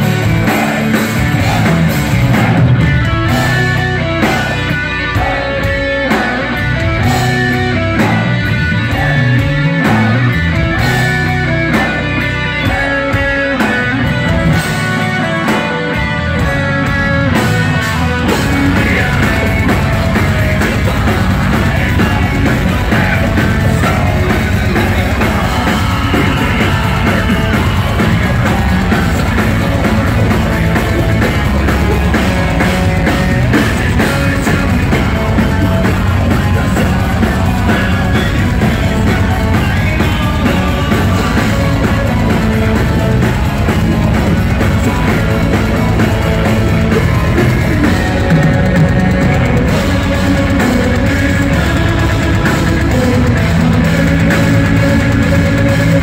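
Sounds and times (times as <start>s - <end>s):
electric guitar melodic lead: 0.0s - 56.0s
rock band with drum kit: 0.0s - 56.0s.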